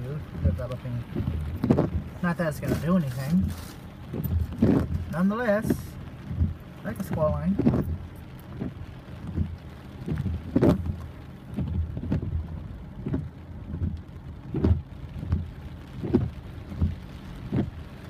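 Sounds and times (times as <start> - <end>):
dull low thumps: 0.0 - 18.0
heavy rain: 0.0 - 18.0.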